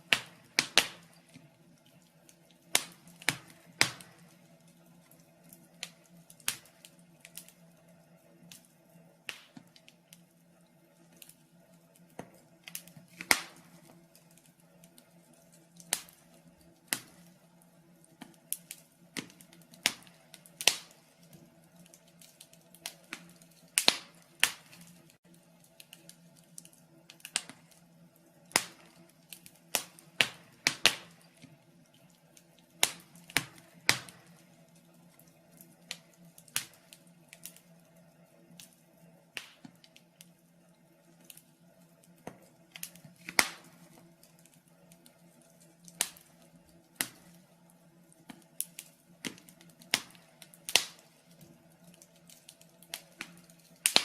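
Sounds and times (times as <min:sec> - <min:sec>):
faint steady hum: 0:00.0 - 0:54.0
wood fire crackling: 0:00.0 - 0:54.0.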